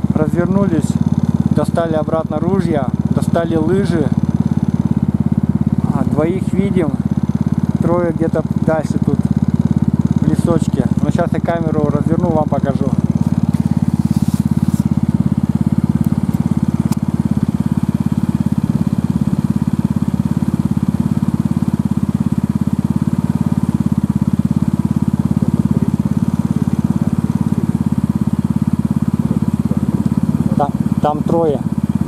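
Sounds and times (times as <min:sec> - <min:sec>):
small engine idling: 0:00.0 - 0:32.0.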